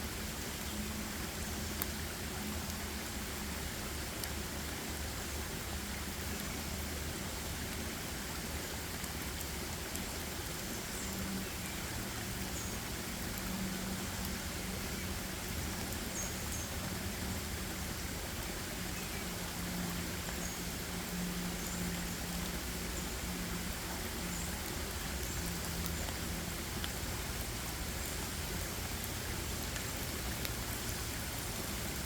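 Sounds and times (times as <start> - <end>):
steady hiss like rain: 0.0 - 32.0.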